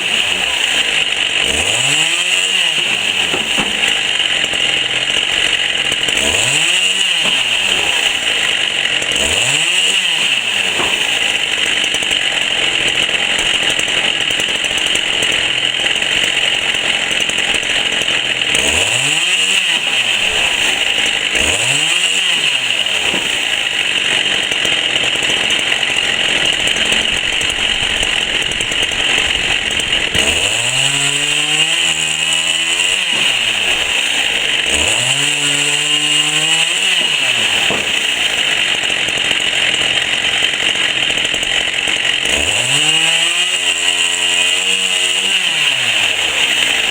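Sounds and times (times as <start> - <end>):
chainsaw running: 0.0 - 46.9.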